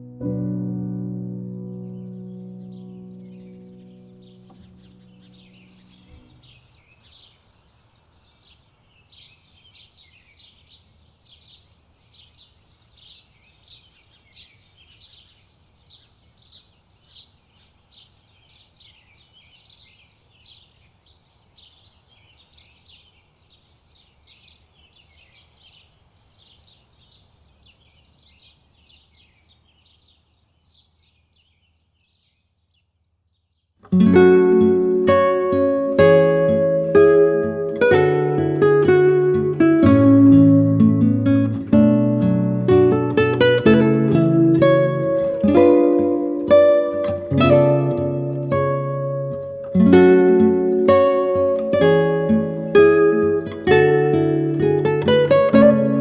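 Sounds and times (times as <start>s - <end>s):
small birds chirping: 1.3s - 56.0s.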